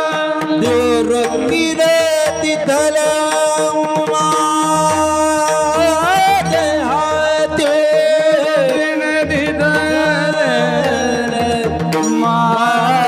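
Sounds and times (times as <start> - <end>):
hand drum playing: 0.0 - 13.0
person singing ornamented melody: 0.0 - 13.0.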